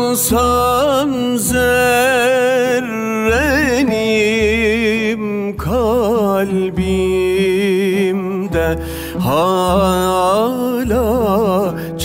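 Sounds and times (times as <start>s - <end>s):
man singing with vibrato: 0.0s - 12.0s
oud: 0.0s - 12.0s.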